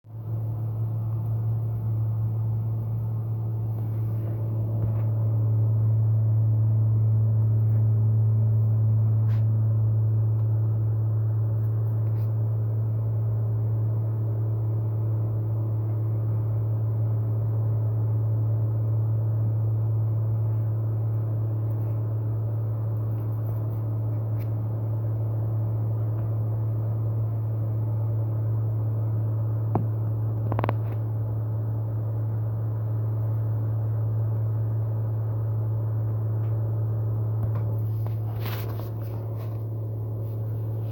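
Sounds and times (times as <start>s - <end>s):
harvester engine droning: 0.0s - 40.9s.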